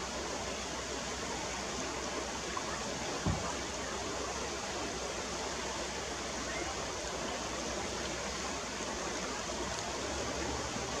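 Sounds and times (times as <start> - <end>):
river water rushing over stones: 0.0 - 11.0.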